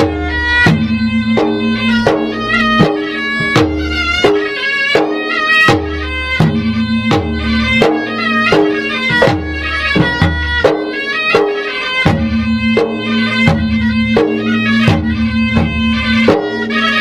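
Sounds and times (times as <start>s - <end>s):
drums in repeating pattern: 0.0s - 17.0s
wind instrument melody: 0.0s - 17.0s.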